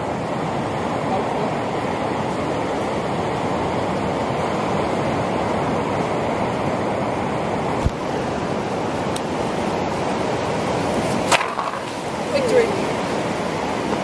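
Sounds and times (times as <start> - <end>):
surf breaking on beach: 0.0 - 14.0.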